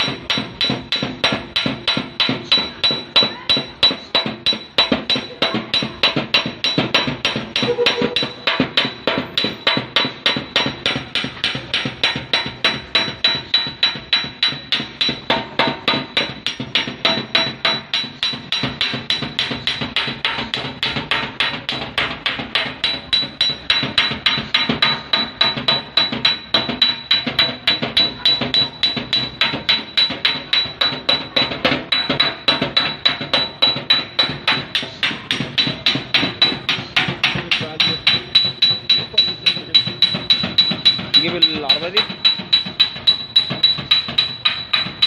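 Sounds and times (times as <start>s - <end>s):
hammering on sheet metal: 0.0s - 45.0s.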